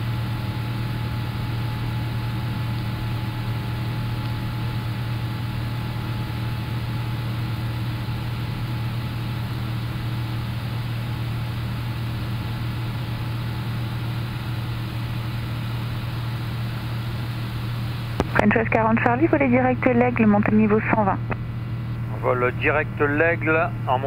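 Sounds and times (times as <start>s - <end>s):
deep constant hum: 0.0s - 24.0s.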